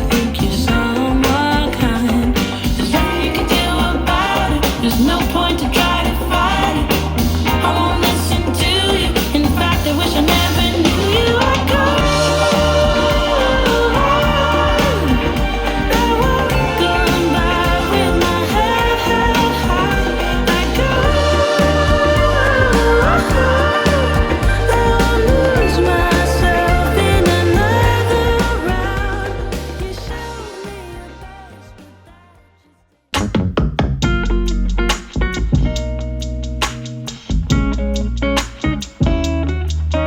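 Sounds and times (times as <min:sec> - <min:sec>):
song playing through speaker: 0:00.0 - 0:32.7.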